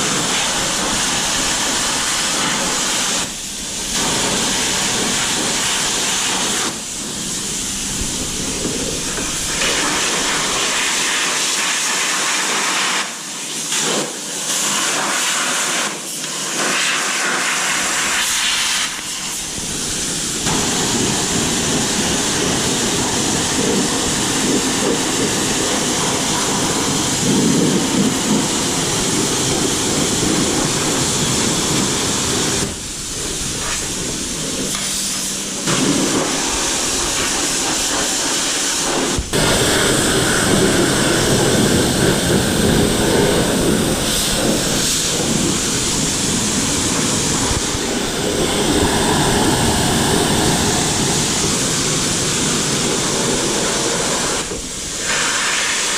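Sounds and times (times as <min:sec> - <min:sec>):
water spraying onto engine: 0:00.0 - 0:55.9.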